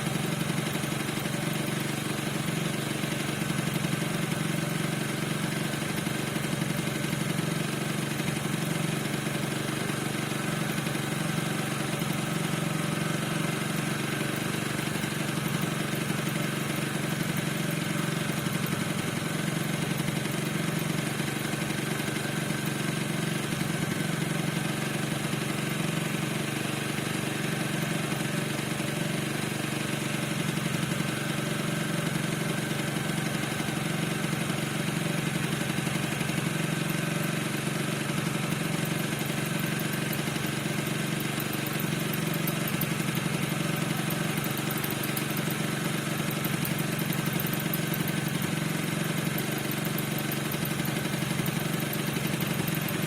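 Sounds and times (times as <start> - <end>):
scooter engine idling: 0.0 - 53.0
squeak from engine: 0.0 - 53.0.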